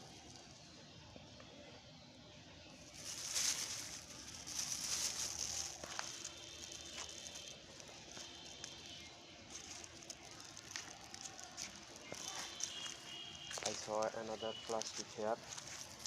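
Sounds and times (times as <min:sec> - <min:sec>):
plastic litter rustling and crackling: 0:02.8 - 0:16.0.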